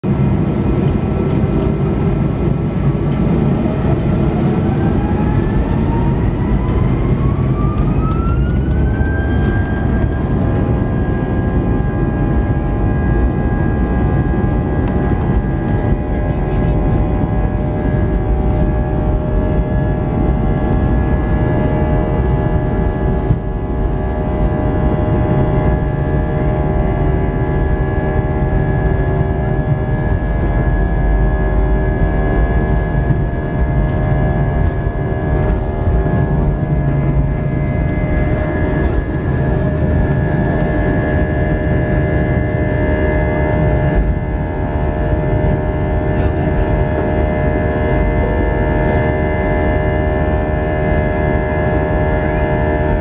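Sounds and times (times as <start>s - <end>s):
engine roar: 0.0s - 53.0s
jet engines whining: 0.1s - 53.0s.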